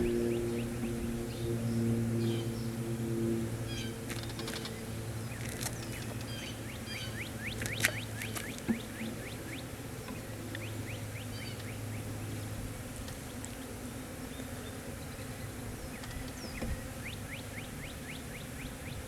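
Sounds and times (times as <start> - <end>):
honey bees humming: 0.0 - 19.0.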